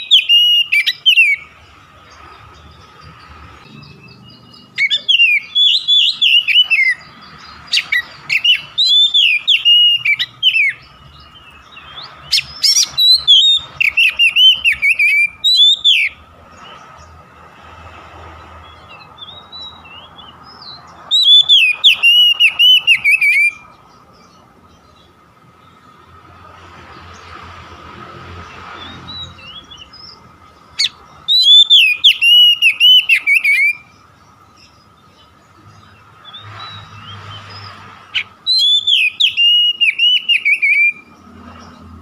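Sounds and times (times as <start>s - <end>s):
bird singing whistled notes: 0.0s - 1.7s, 2.6s - 17.1s, 18.6s - 25.9s, 28.8s - 42.0s.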